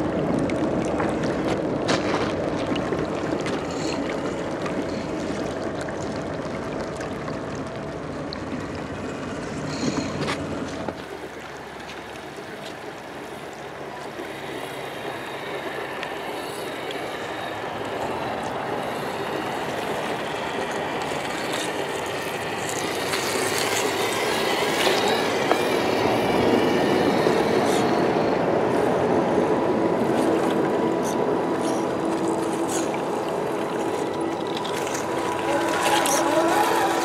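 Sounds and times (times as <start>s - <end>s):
stream rushing: 0.0s - 37.0s.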